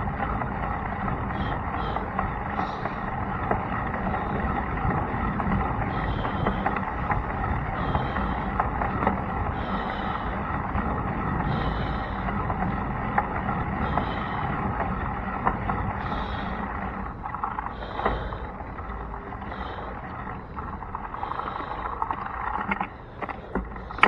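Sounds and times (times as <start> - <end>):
bicycle road rumble: 0.0 - 24.0
bike clicks and rattles: 0.0 - 24.0
wind: 0.0 - 24.0.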